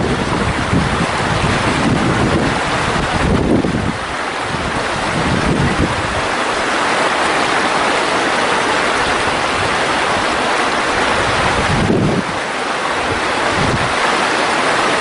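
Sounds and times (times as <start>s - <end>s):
stream rushing over rocks: 0.0s - 15.0s
wind rumble on microphone: 0.0s - 15.0s.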